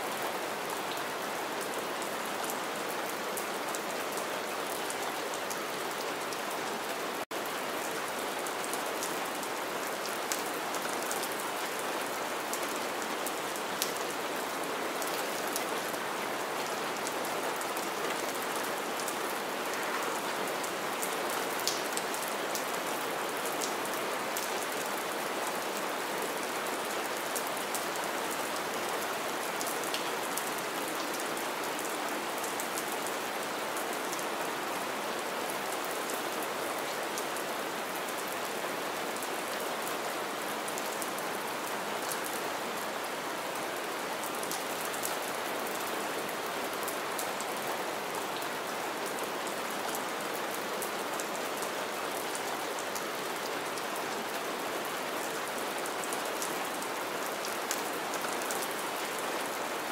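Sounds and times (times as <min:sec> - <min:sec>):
rain splashing on wet ground: 0:00.0 - 0:59.9.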